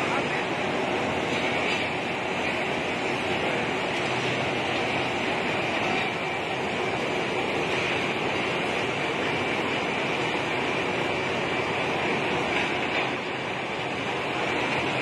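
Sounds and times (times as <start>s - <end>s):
steel rolling mill din: 0.0s - 15.0s.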